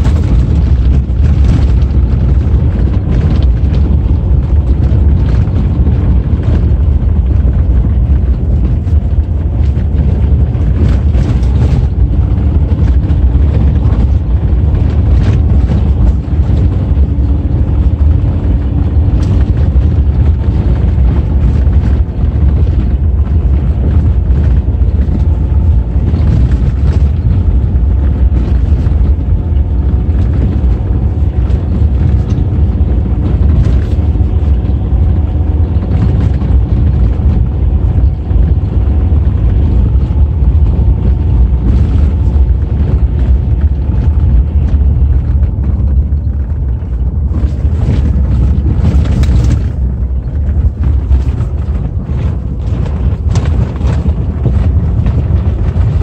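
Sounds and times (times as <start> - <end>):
engine and tyres rumbling on gravel: 0.0 - 56.0.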